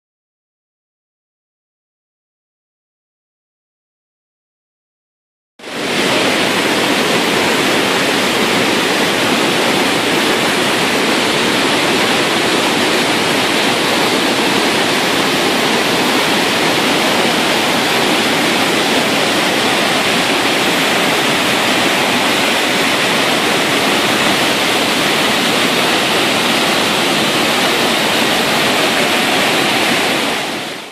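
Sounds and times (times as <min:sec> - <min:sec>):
waterfall rushing: 0:05.6 - 0:30.9.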